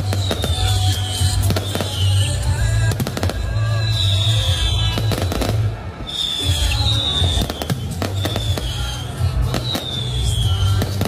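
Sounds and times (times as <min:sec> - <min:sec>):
firework whistles: 0:00.0 - 0:11.0
fireworks bangs and crackling: 0:00.0 - 0:11.0.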